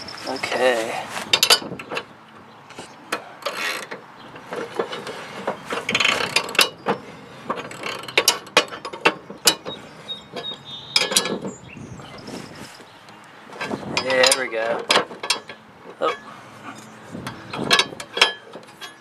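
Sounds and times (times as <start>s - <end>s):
wrench scraping: 0.0s - 2.1s, 2.7s - 11.6s, 13.5s - 19.0s.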